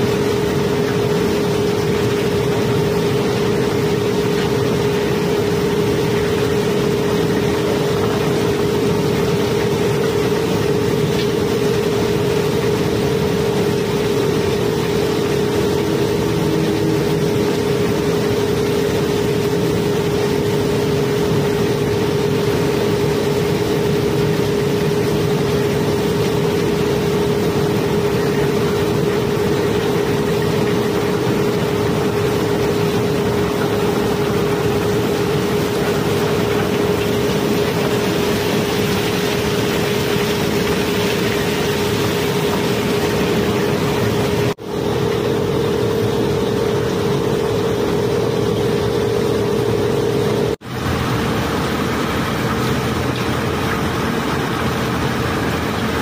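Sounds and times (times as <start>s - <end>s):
machine hum with tone: 0.0s - 56.0s.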